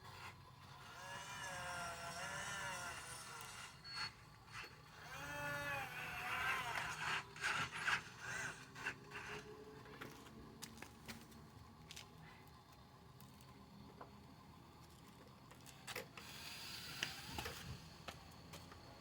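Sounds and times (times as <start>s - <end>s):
electric motors whirring: 0.0s - 10.9s, 13.4s - 19.0s.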